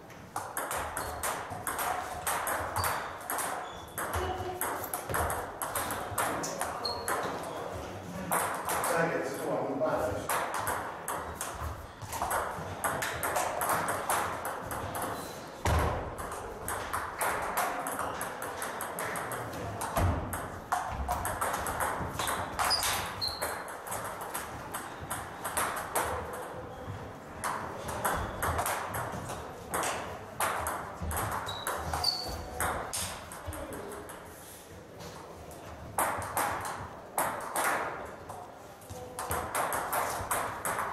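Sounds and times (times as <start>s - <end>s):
table tennis balls clicking: 0.0s - 9.1s, 10.2s - 34.4s, 35.0s - 40.9s.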